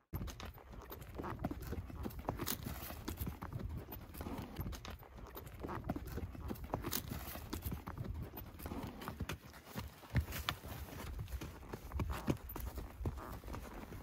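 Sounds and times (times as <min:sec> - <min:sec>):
hooves clopping on stony ground: 0:00.0 - 0:14.0.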